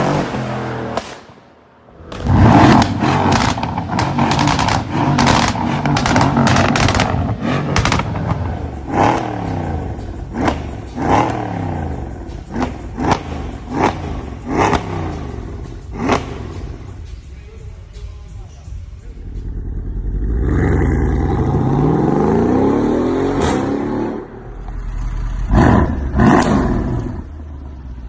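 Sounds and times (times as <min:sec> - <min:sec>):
car exhaust revving with crackles: 0:02.1 - 0:17.1, 0:19.3 - 0:28.0.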